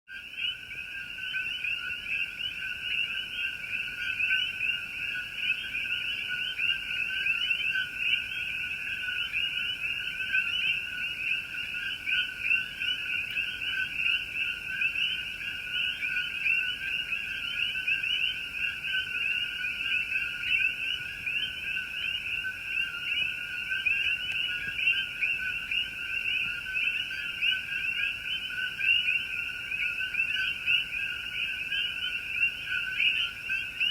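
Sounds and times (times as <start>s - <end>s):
frogs chorus chirping: 0.1s - 33.9s.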